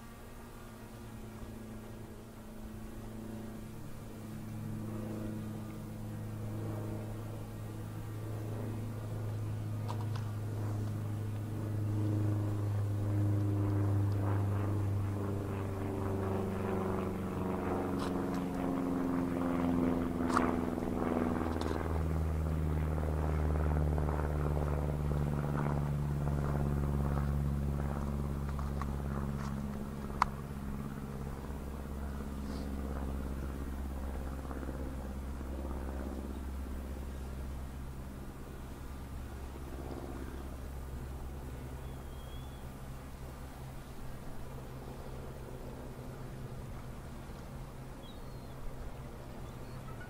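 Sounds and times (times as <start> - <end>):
drone propellers humming: 0.0 - 50.0.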